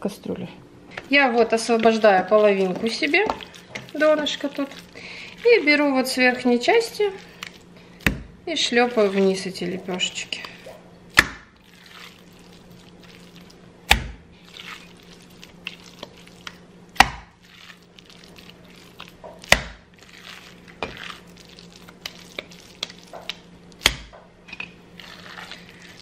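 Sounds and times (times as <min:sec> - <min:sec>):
meat squelching: 0:00.9 - 0:24.1, 0:24.9 - 0:26.0.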